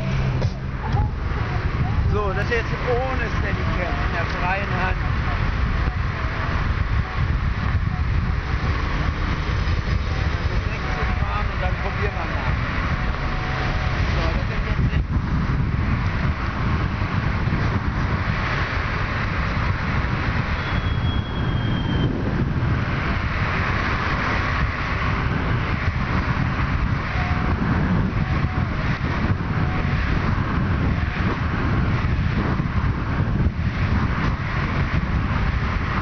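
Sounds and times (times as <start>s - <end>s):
car road noise: 0.0s - 36.0s
wind rushing over microphone: 0.0s - 36.0s.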